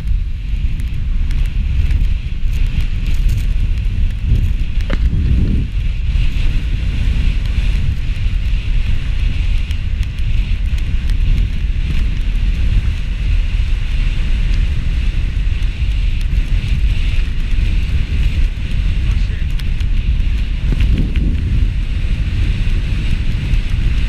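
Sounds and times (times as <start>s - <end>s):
skis scraping over snow: 0.0s - 24.0s
wind buffeting microphone: 0.0s - 24.0s.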